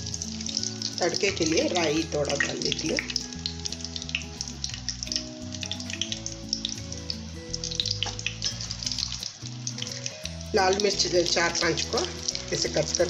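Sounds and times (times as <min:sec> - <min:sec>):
background music: 0:00.0 - 0:13.0
seeds sizzling and popping in oil: 0:00.0 - 0:13.0.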